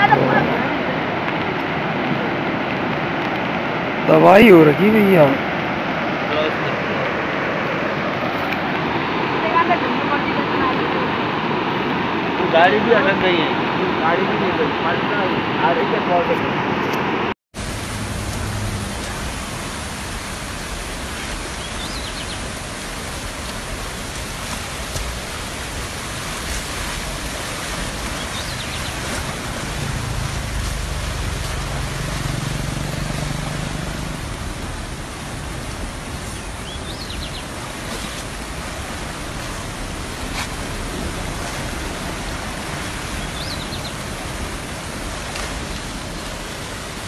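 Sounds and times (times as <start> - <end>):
floodwater roaring: 0.0 - 47.0.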